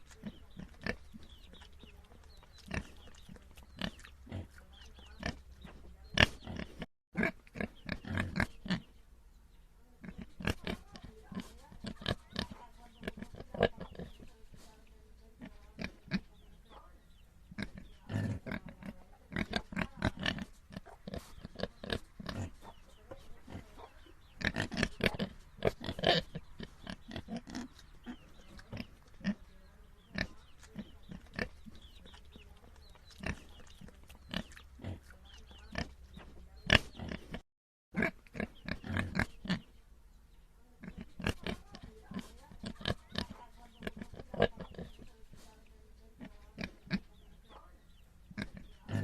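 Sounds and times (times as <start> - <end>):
pigs grunting: 0.0 - 8.9, 10.0 - 14.3, 17.5 - 37.4, 38.0 - 39.7, 40.8 - 45.4, 48.3 - 49.0.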